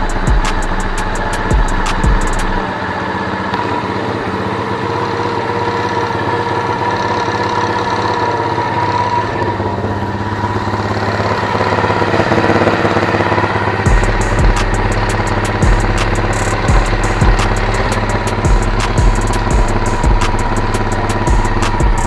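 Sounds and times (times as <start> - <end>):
motorcycle engine idling: 3.3 - 22.0.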